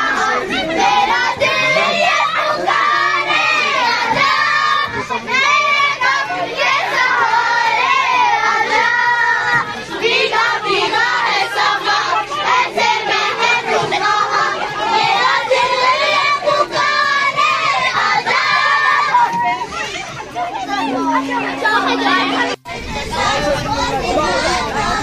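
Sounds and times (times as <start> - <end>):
girls singing together: 0.0 - 25.0.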